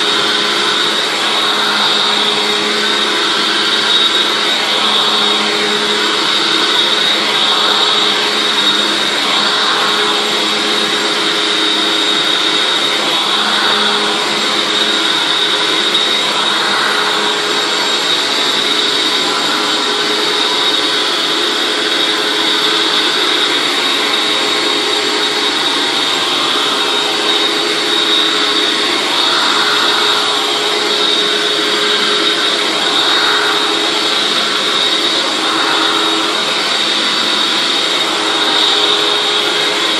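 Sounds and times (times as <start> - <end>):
upright vacuum cleaner whining: 0.0 - 39.9.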